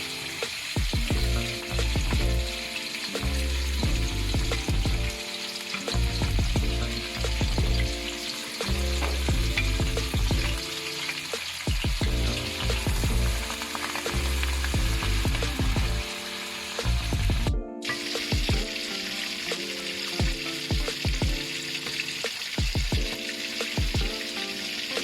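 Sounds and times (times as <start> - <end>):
background music: 0.0 - 25.0
food sizzling in a pan: 0.0 - 25.0.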